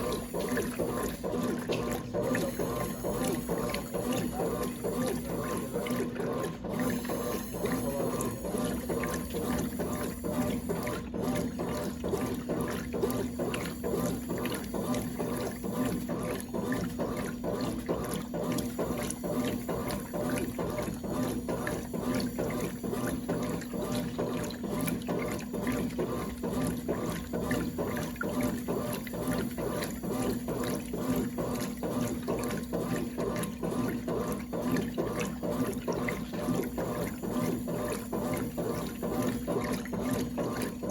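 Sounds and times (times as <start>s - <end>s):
water sloshing in washing machine: 0.0s - 40.9s.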